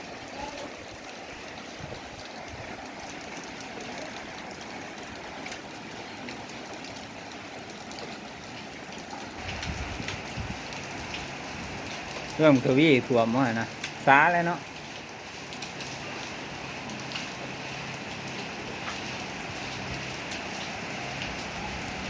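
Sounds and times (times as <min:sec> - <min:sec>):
heavy rain falling: 0:00.0 - 0:22.0
rushing floodwater: 0:00.0 - 0:22.0.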